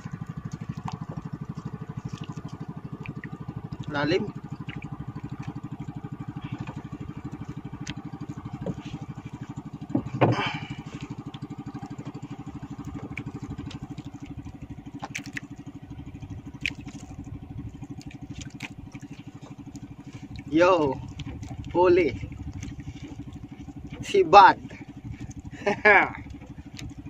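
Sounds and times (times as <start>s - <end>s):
boat engine puttering: 0.0s - 27.0s.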